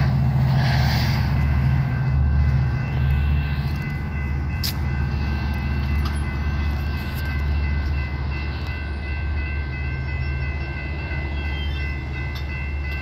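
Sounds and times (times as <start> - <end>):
crossing warning bells ringing: 0.0 - 13.0
diesel locomotive rumble: 0.0 - 13.0.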